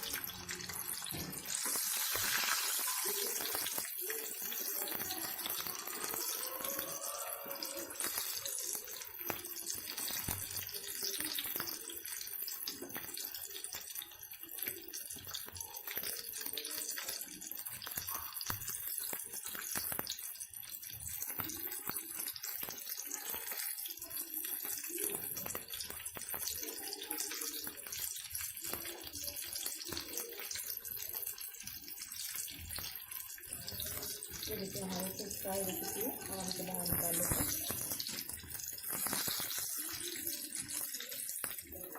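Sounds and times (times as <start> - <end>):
patties frying in oil: 0.0 - 41.9.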